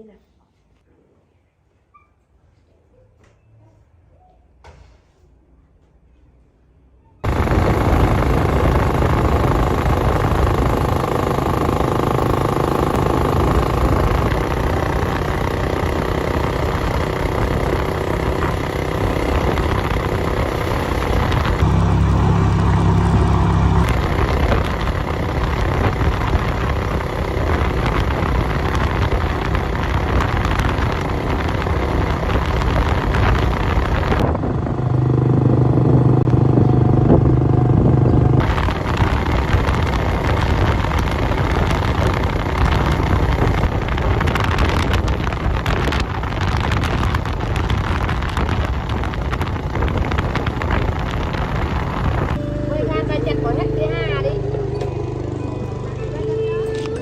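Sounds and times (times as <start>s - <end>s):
motorbike engine: 7.2s - 57.0s.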